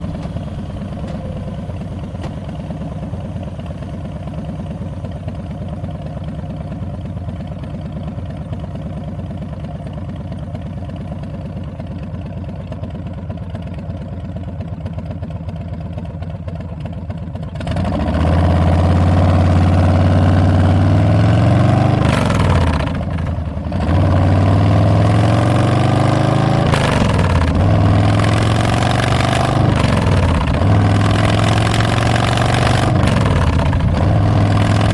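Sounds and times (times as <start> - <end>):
motorcycle engine idling and pulling away: 0.0 - 34.9.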